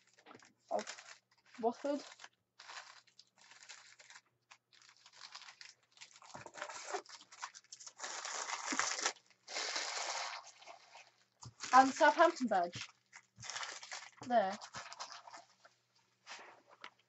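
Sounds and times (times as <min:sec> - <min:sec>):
trading cards and foil crinkling: 0:00.0 - 0:15.6.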